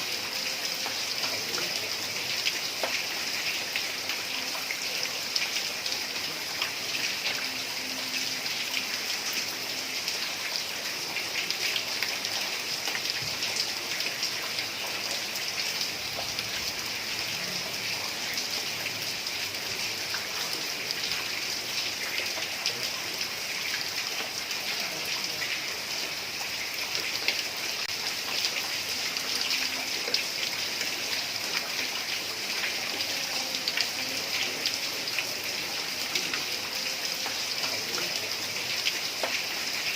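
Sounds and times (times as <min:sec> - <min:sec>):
heavy rain on a tiled roof: 0:00.0 - 0:39.9.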